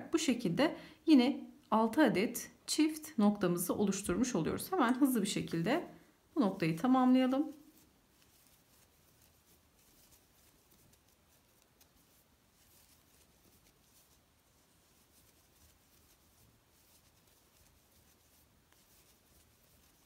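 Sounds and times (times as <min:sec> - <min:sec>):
crochet hook rustling through cord: 0:03.3 - 0:20.0.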